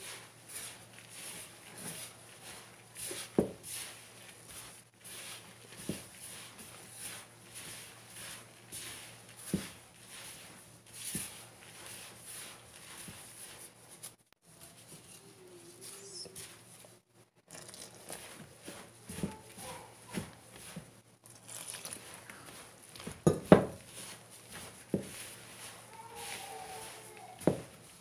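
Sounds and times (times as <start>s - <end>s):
gloved hand rustling flour in bowl: 0.0s - 28.0s.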